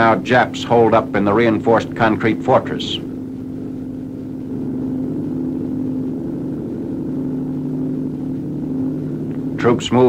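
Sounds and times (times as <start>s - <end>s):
boat engines droning: 0.0s - 10.0s.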